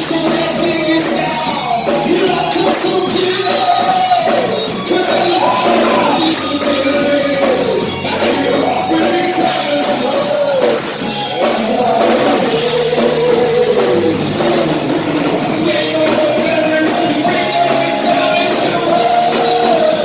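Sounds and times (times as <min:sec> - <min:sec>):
bending lead guitar line: 0:00.0 - 0:20.0
drums: 0:00.0 - 0:20.0
live rock band playing: 0:00.0 - 0:20.0.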